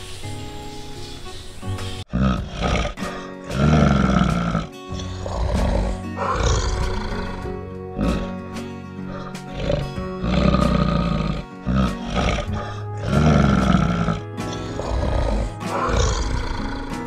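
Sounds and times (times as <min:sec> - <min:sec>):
background music: 0:00.0 - 0:17.0
bear growling: 0:02.0 - 0:17.0.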